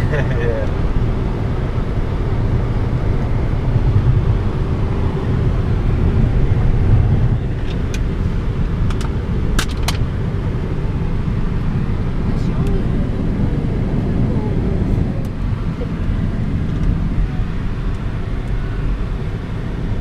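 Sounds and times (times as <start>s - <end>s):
car tyre and engine rumble: 0.0s - 20.0s.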